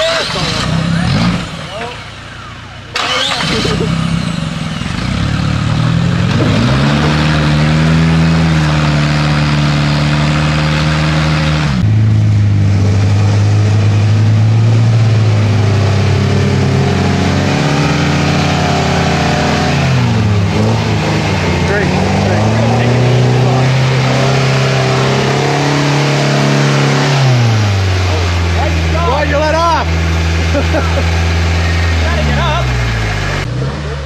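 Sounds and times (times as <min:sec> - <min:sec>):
deeper pickup engine under load: 0:00.0 - 0:34.0
off-road vehicle engine revving: 0:00.0 - 0:34.0.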